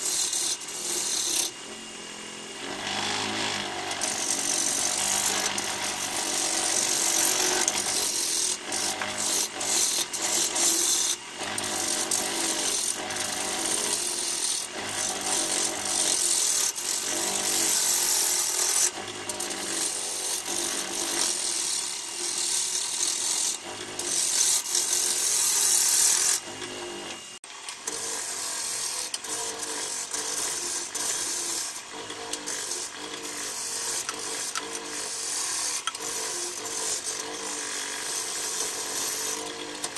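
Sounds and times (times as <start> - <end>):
wood lathe gouge scraping: 0.0 - 39.9.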